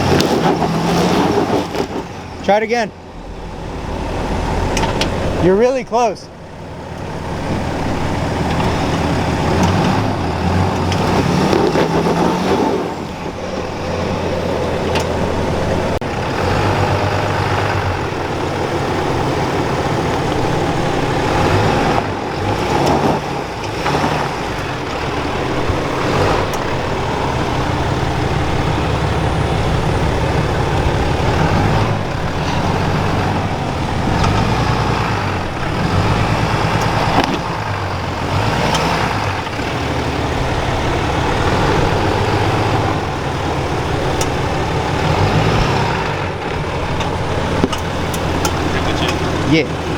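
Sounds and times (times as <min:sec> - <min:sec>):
diesel truck engine revving: 0:00.0 - 0:49.9.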